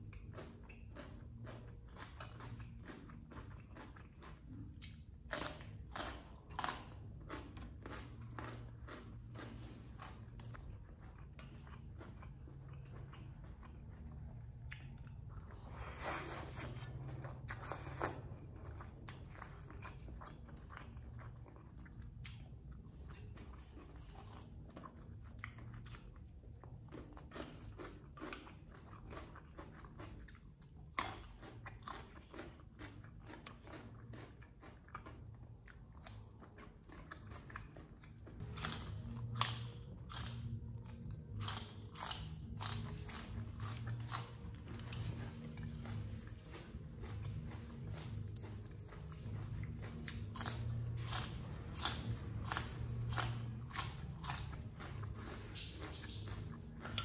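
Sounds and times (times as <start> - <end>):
wet chewing and crunching: 0.0 - 57.0.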